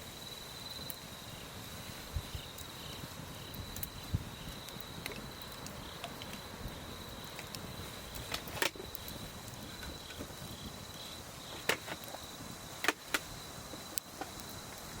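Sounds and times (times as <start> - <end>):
campfire crackling pops: 0.0 - 15.0.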